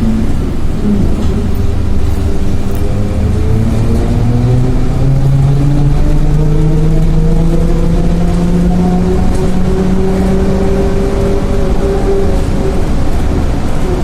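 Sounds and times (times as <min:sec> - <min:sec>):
electric traction drive whine: 0:00.0 - 0:14.0
low rumble of moving vehicle: 0:00.0 - 0:14.0.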